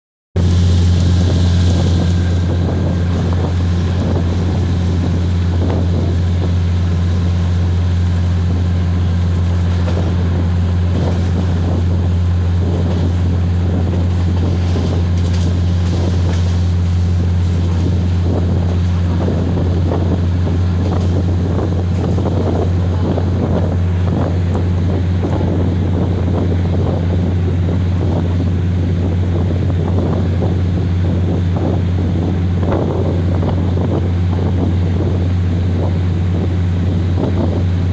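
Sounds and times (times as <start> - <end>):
diesel train engine drone: 0.4 - 37.9
wind on microphone: 0.4 - 37.9.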